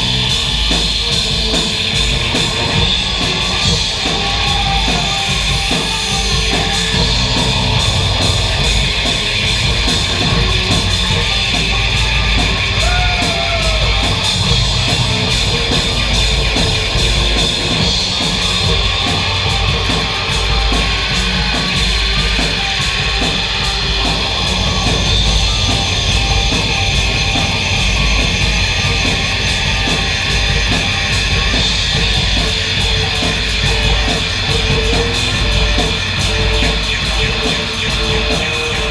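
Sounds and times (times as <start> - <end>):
distorted noise music: 0.0 - 38.9.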